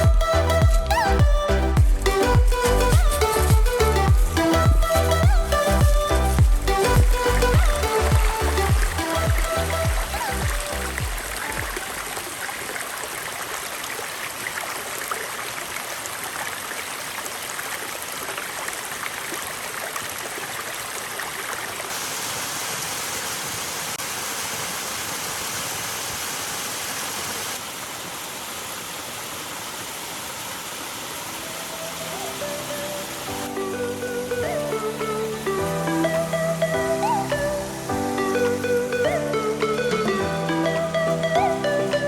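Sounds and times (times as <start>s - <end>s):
water cascading over rock: 0.0s - 42.0s.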